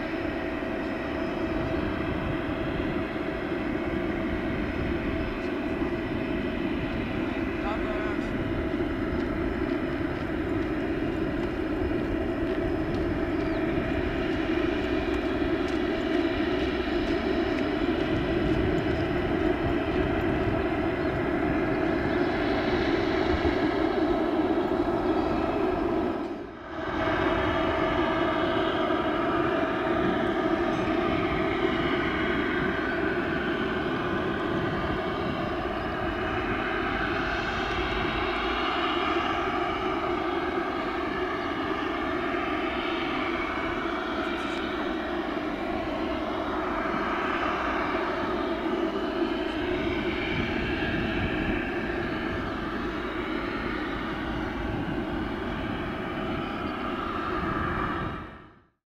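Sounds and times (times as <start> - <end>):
faint engine whine: 0.0 - 58.8
jet engines rumbling: 0.0 - 58.8.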